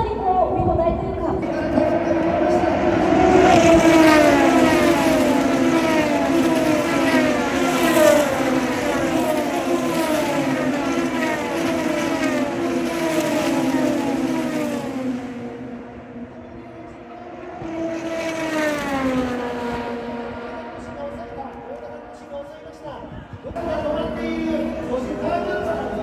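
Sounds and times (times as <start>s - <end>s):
racing cars passing by: 0.0s - 26.0s
steady engine drone: 0.0s - 26.0s.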